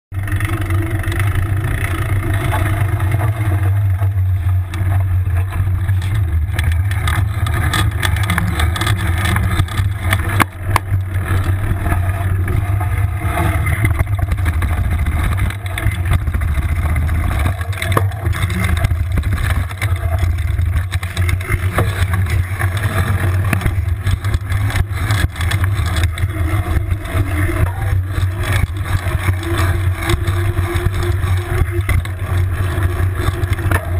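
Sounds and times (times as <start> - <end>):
bike knocks and rattles: 0.1 - 33.9
low rumble of bike riding: 0.1 - 33.9.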